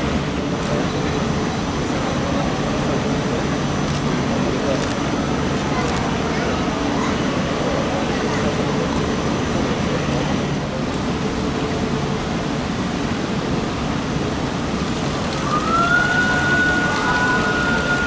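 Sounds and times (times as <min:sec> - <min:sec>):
train hum and rush: 0:00.0 - 0:18.0.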